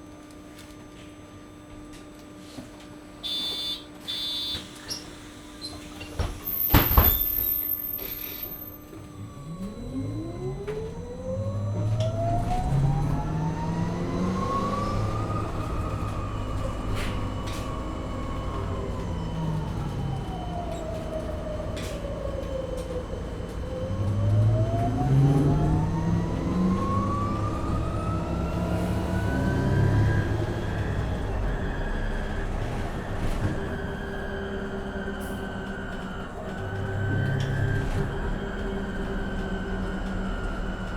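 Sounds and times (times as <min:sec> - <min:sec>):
bus drive whine: 0:04.4 - 0:40.9.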